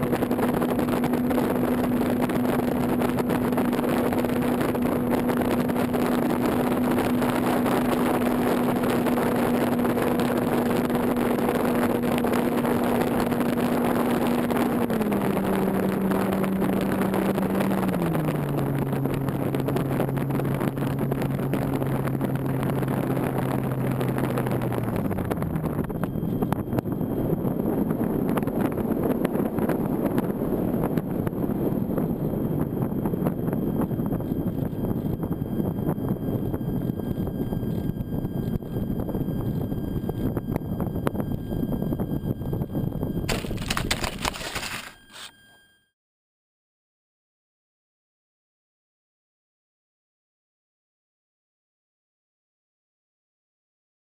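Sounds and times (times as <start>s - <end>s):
electric motor and propeller hum: 0.0s - 45.6s.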